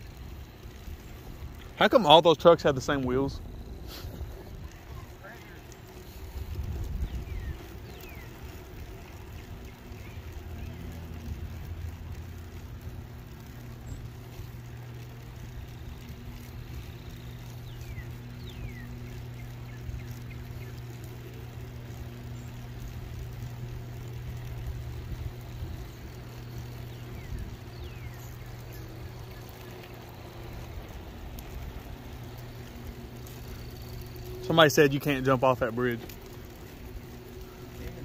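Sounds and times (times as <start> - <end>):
electric ride humming: 0.0 - 38.0.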